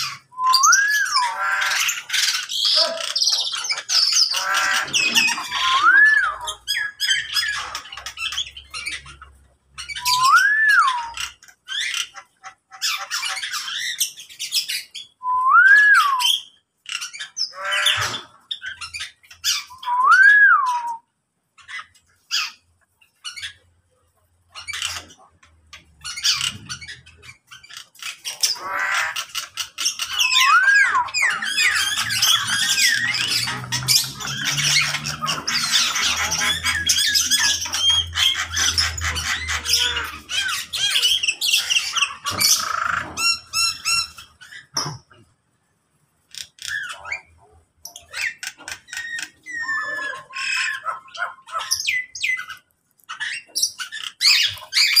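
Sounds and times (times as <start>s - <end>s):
cage birds squawking and whistling: 0.0s - 55.0s.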